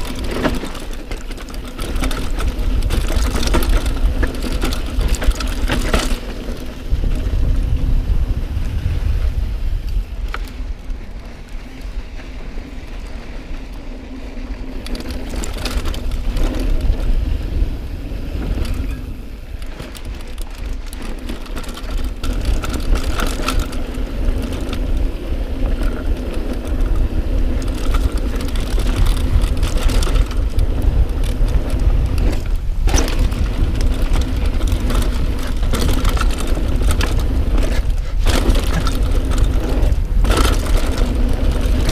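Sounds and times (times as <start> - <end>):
bike rattling over rocks: 0.0 - 41.9
wind and tyre rumble: 0.0 - 41.9.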